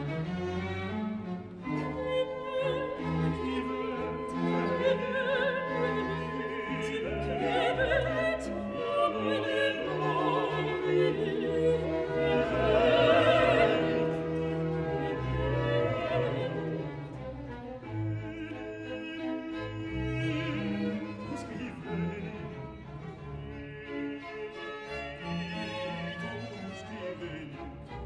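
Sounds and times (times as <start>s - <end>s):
operatic singing with vibrato: 1.6s - 28.0s.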